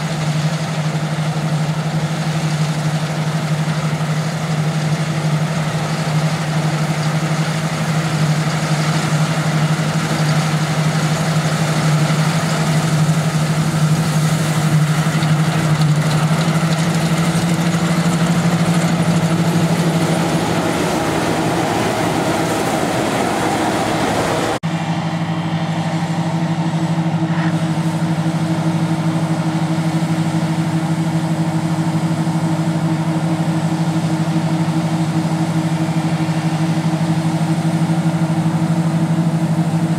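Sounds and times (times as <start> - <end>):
combine harvester engine hum: 0.0 - 39.9
tractor running: 0.0 - 39.9.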